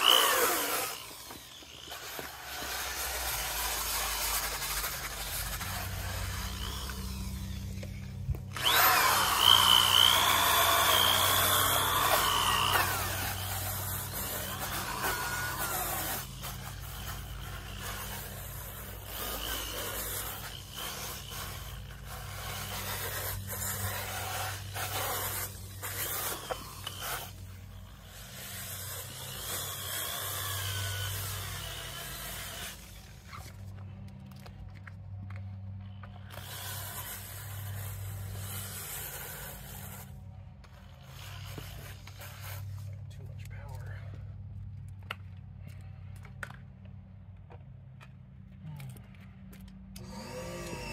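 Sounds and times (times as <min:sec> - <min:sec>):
drill brush scrubbing rubber mats: 0:00.0 - 0:34.1, 0:35.3 - 0:44.2, 0:50.0 - 0:50.9
steady low hum: 0:00.0 - 0:50.9.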